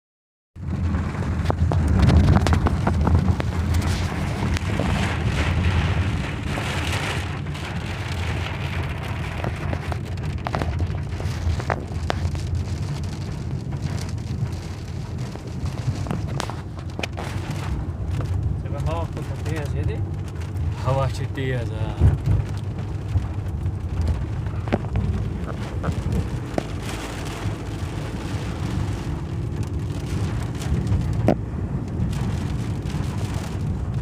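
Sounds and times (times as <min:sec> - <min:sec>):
car low rumble: 0:00.6 - 0:34.0
heavy rain on a car: 0:00.6 - 0:34.0.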